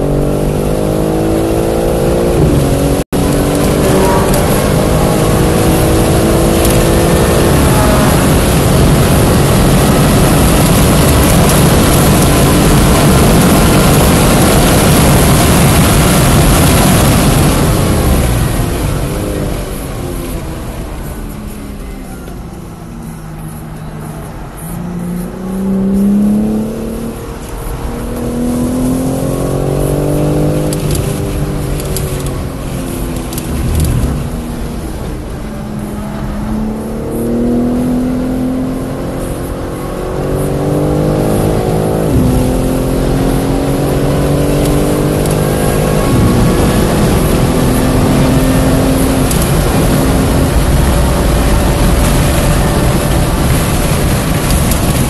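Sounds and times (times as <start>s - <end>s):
wind noise: 0.0s - 21.8s, 25.6s - 55.0s
car engine accelerating hard: 0.0s - 55.0s.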